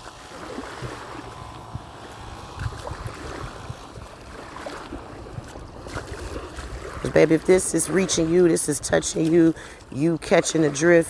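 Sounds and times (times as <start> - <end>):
surf washing: 0.0 - 11.0
wind noise on microphone: 0.0 - 11.0.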